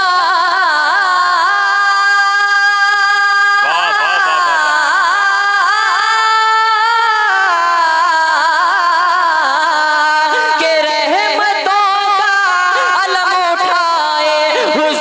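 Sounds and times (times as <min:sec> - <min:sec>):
young man singing into a microphone: 0:00.0 - 0:15.0.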